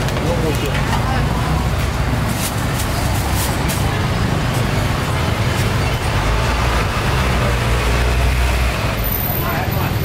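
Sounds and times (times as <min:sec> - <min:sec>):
traffic engine rumble: 0:00.0 - 0:10.0.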